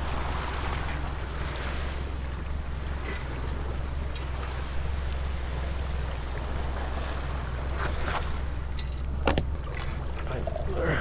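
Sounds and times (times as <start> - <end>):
low wind rumble on microphone: 0.0 - 11.0
water lapping against boat hull: 0.0 - 11.0.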